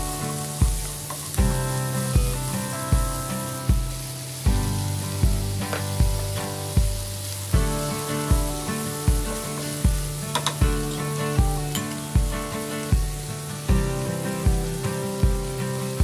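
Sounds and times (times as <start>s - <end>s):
background music with a beat: 0.0s - 16.0s
vegetables sizzling in a frying pan: 0.0s - 16.0s.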